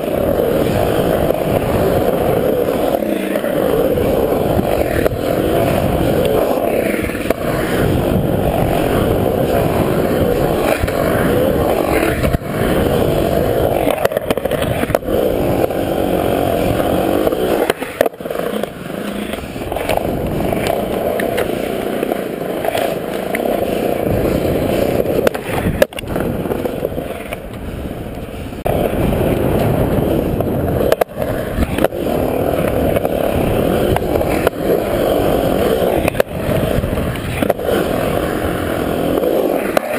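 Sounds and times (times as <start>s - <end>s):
skateboard knocks: 0.0s - 38.5s, 39.1s - 39.9s
skateboard wheels rolling on concrete: 0.0s - 39.9s.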